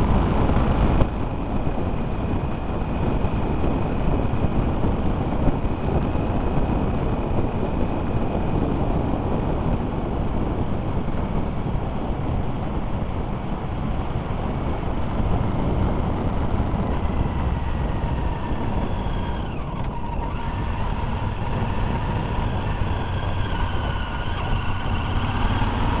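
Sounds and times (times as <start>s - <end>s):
motorbike engine whine: 0.0s - 26.0s
wind buffeting microphone: 0.0s - 26.0s.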